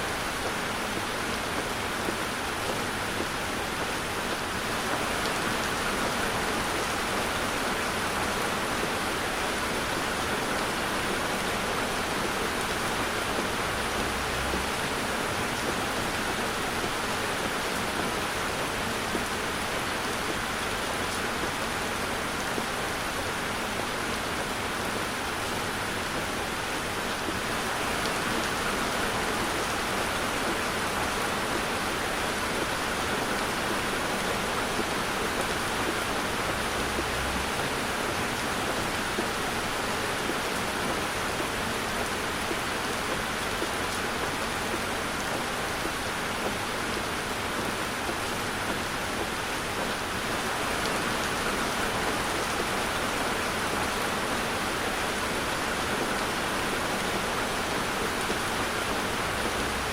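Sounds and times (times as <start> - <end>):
heavy rain on a car: 0.0 - 59.9.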